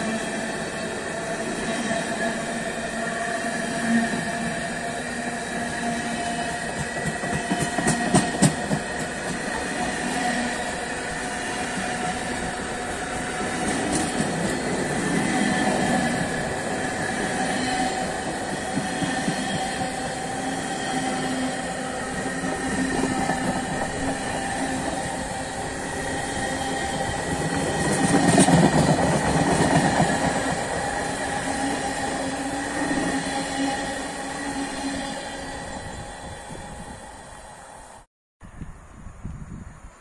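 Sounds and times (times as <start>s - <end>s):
train wheels rumbling on rail: 0.0s - 37.5s.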